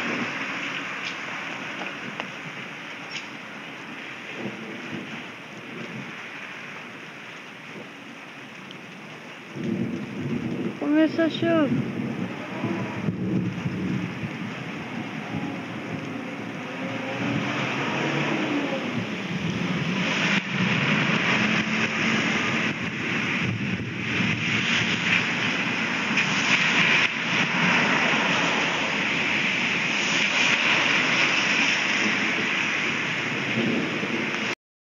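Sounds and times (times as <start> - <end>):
steady rain pouring: 0.0 - 34.6.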